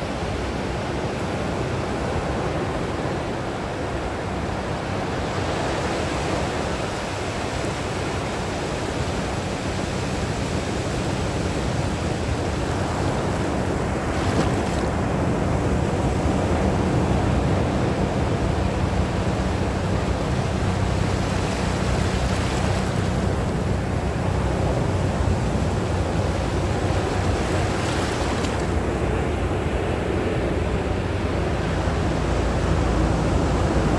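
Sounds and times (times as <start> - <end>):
sea surf washing: 0.2 - 33.9
waves breaking: 1.2 - 33.9.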